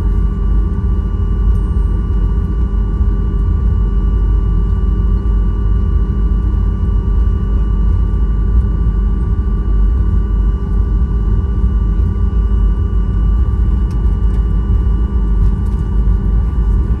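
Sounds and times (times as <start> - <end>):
airliner rumble: 0.0 - 17.0
constant whining tones: 0.0 - 17.0.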